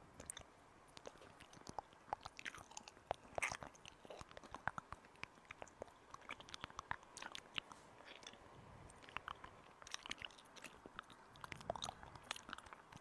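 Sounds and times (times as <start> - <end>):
sharp clicks and small crunches: 0.2 - 13.0.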